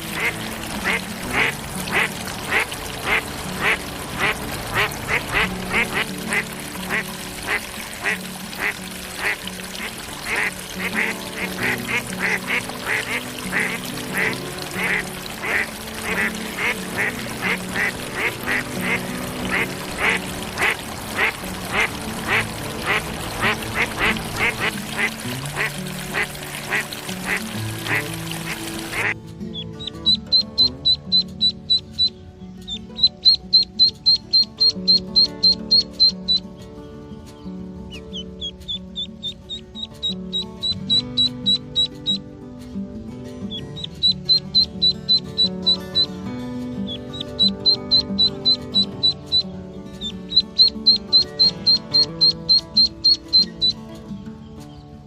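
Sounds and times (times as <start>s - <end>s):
ducks calling: 0.0s - 36.6s, 37.9s - 42.2s, 43.5s - 53.9s
background music with low notes: 0.0s - 55.0s.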